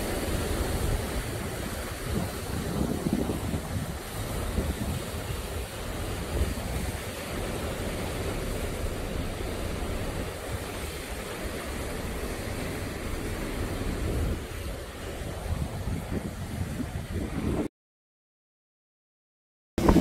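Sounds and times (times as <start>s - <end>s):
waves breaking over rocks: 0.0s - 17.7s
wind rumbling on microphone: 0.0s - 17.7s, 19.8s - 20.0s.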